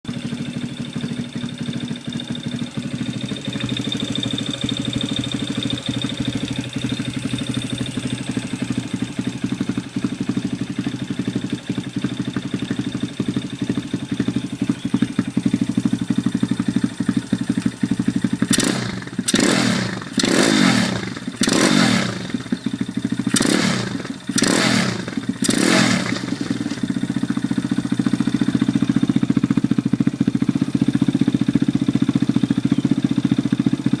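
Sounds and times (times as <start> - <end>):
motorcycle idling and revving: 0.0 - 34.0.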